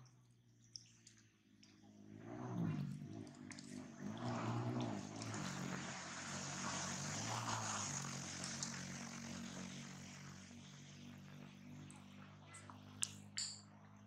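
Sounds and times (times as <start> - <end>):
low engine drone: 1.8 - 14.0.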